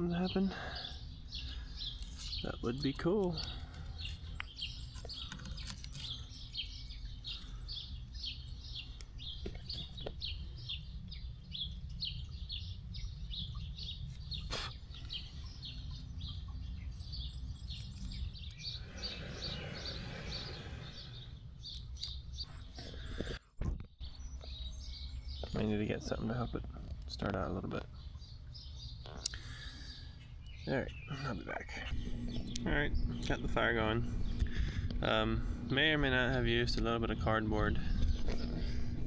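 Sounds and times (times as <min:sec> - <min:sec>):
low background rumble: 0:00.0 - 0:23.2, 0:24.1 - 0:39.0
bird chirping: 0:00.0 - 0:23.3, 0:24.0 - 0:39.0.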